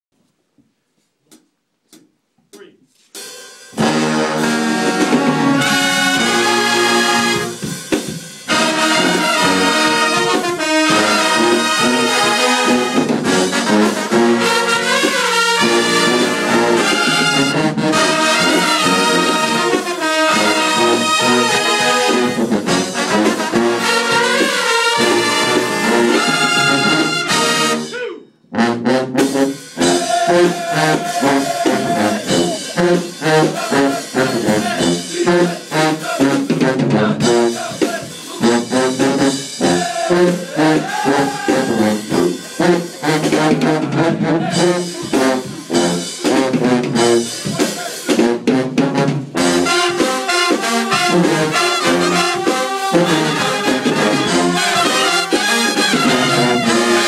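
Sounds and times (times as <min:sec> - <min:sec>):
drum kit: 0:01.3 - 0:28.0, 0:28.7 - 0:57.0
brass band playing: 0:03.2 - 0:57.0.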